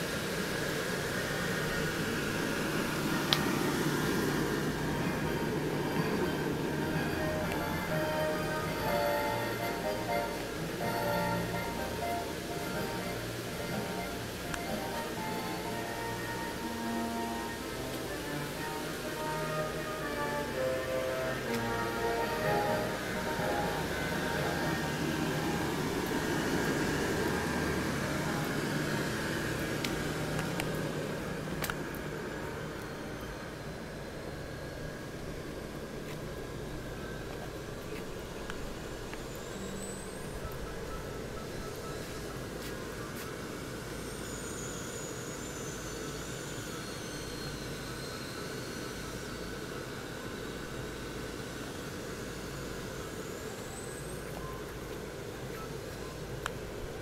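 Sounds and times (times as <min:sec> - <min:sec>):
faint high whine: 0:00.0 - 0:57.0
mechanical hum and whir: 0:00.0 - 0:57.0.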